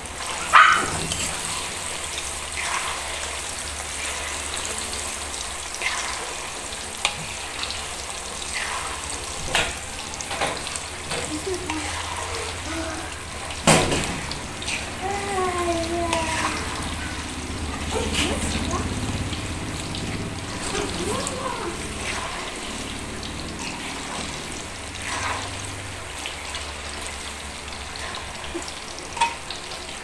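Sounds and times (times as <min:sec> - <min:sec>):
bananas sizzling in hot oil: 0:00.0 - 0:30.0.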